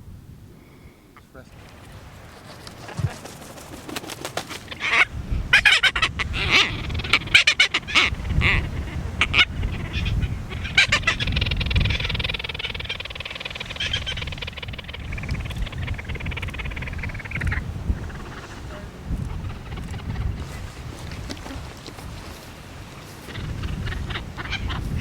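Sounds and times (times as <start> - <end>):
tropicbirds harsh grating calls: 1.5 - 25.0.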